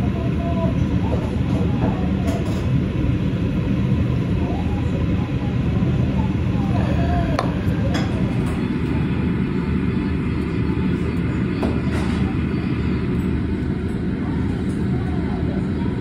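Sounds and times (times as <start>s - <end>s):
low rumble of room noise: 0.0s - 16.0s.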